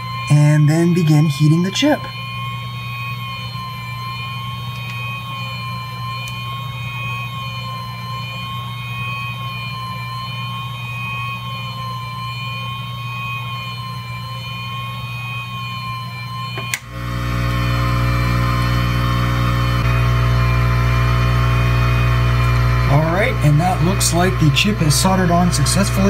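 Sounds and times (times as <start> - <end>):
hot-air blower whine: 0.0 - 26.0.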